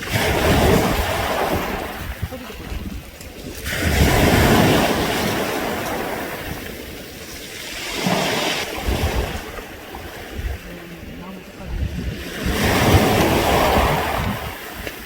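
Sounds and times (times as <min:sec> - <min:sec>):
waves rattling pebbles: 0:00.0 - 0:15.0.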